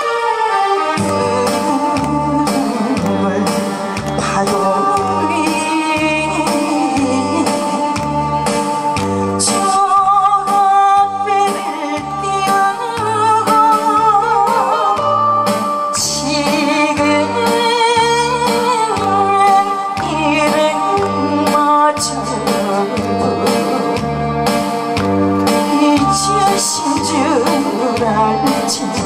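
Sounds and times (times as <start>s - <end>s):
amplified accompaniment with bass beat: 0.0s - 29.0s
woman singing with vibrato: 0.1s - 24.5s, 25.5s - 29.0s.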